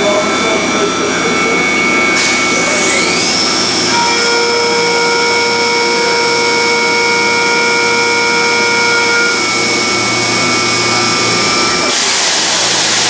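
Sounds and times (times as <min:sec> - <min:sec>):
milling machine whining: 0:00.0 - 0:13.0.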